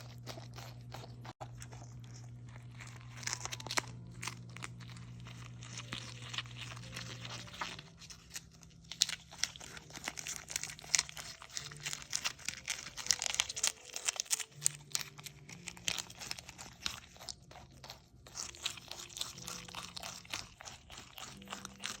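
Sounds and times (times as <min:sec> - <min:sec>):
animal chewing crunchy snack: 0:00.0 - 0:22.0.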